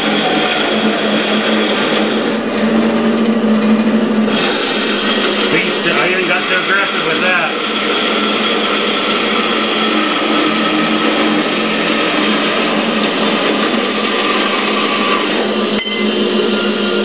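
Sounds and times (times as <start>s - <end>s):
band saw cutting metal: 0.0s - 17.0s.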